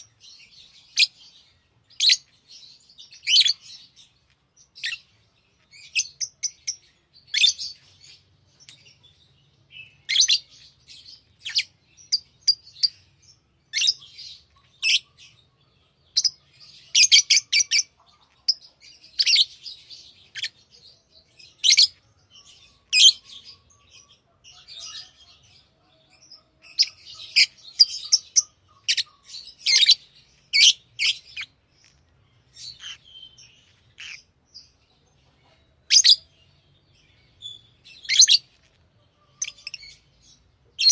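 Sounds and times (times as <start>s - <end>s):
lovebirds chirping: 0.0s - 40.9s.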